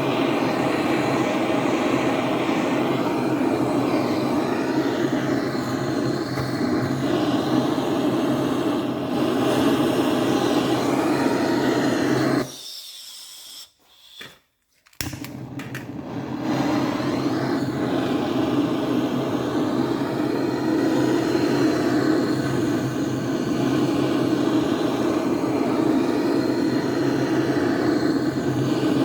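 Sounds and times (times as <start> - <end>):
heat gun blowing: 0.0 - 29.0.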